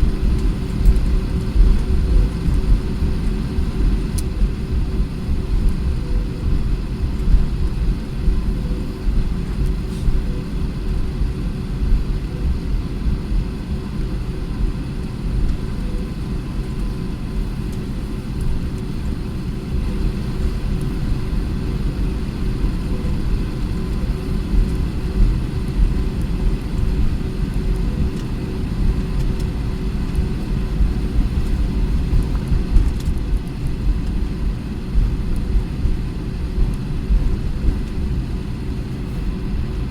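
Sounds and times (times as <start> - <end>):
aircraft cabin low rumble: 0.0 - 39.9
faint steady hum: 0.0 - 39.9.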